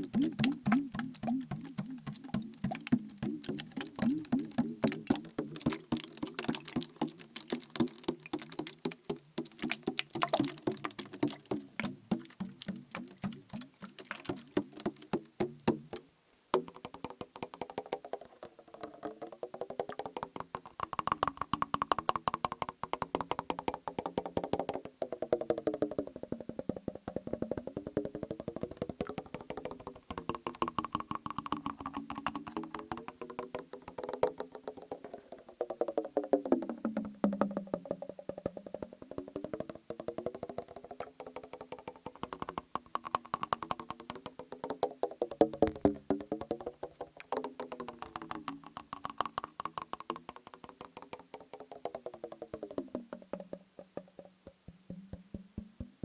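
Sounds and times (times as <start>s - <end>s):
fingers tapping plastic bottle: 0.0s - 56.0s.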